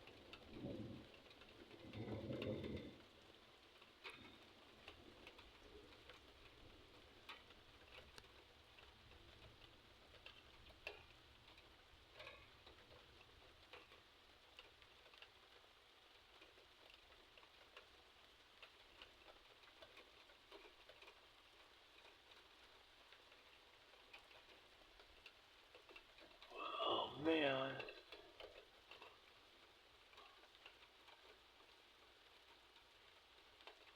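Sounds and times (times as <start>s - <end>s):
light rain drops ticking: 0.0s - 33.9s.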